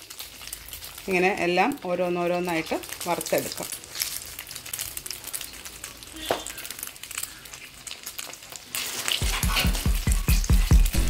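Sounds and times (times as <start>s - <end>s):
meatballs deep-frying in oil: 0.0s - 11.0s.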